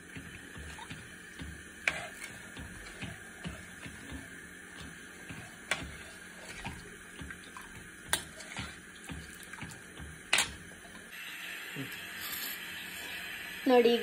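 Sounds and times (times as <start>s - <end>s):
soup bubbling in a pot: 0.0s - 11.2s.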